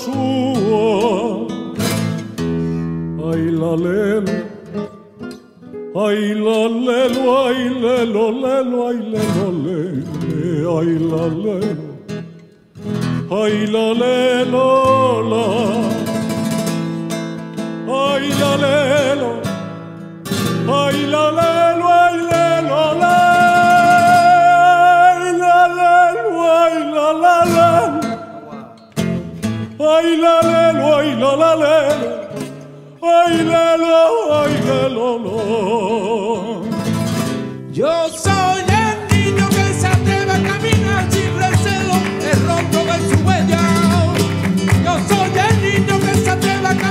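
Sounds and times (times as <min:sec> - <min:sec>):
man singing: 0:00.0 - 0:02.4, 0:03.1 - 0:46.9
acoustic guitar: 0:00.0 - 0:46.9.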